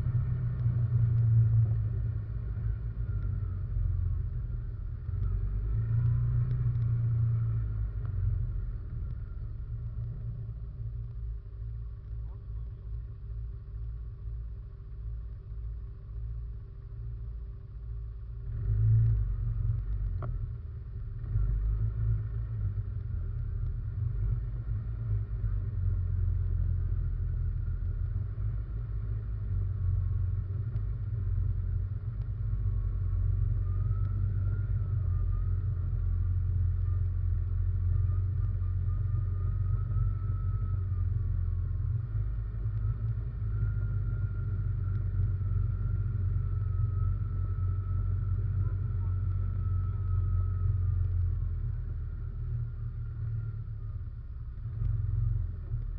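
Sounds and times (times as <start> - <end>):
atv engine rumbling: 0.0 - 55.9
faint engine whine: 0.0 - 55.9.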